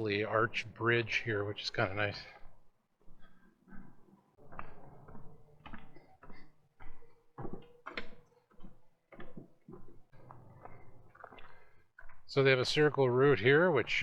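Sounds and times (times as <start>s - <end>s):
walking footsteps: 0.0s - 14.0s.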